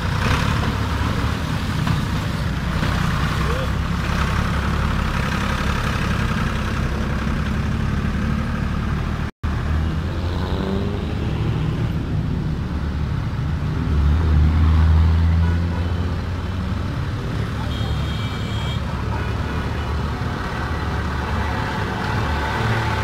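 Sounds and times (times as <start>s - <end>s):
diesel tractor engine rumbling: 0.0s - 10.1s, 11.2s - 23.0s
motorcycle engines: 0.0s - 23.0s.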